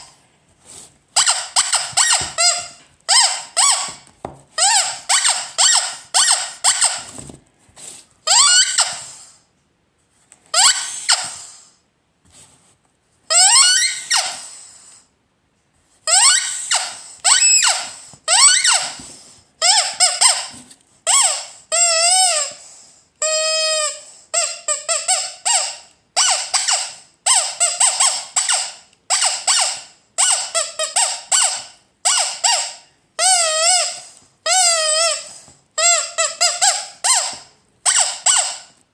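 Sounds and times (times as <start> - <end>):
rubber squeaky toy squeaking: 1.2 - 7.3, 8.2 - 9.3, 10.5 - 11.7, 13.3 - 14.9, 16.0 - 38.8.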